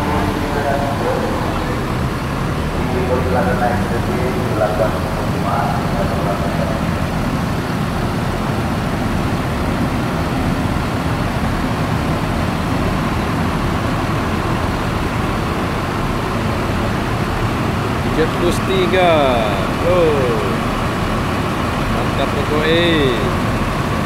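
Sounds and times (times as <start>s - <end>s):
bus diesel engines droning: 0.0s - 24.0s.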